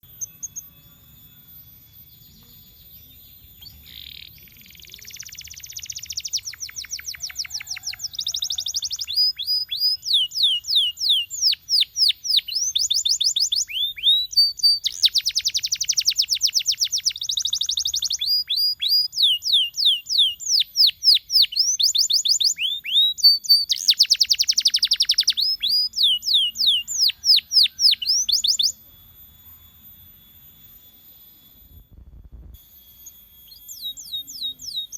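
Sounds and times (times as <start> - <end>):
canary singing trills: 0.0 - 31.6, 32.9 - 34.9.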